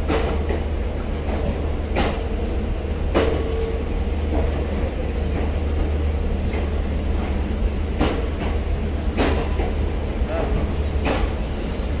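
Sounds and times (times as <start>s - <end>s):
train coaches rumbling past: 0.0s - 12.0s
train wheels clanking: 0.0s - 12.0s.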